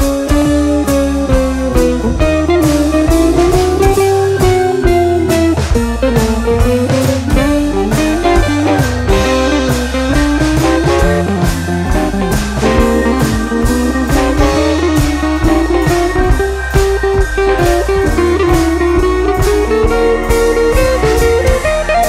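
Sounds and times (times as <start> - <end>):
blues-rock instrumental music: 0.0 - 22.0.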